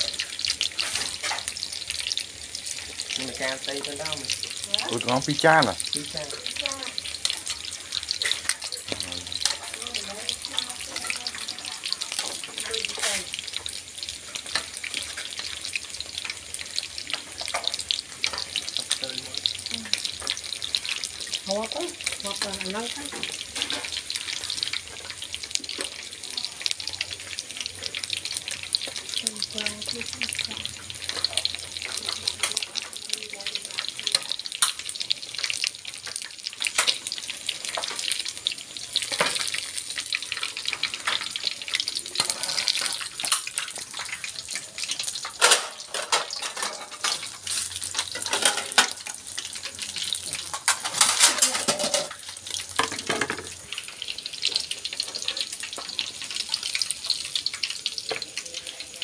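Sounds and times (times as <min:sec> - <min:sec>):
fish deep-frying in oil: 0:00.0 - 0:59.0.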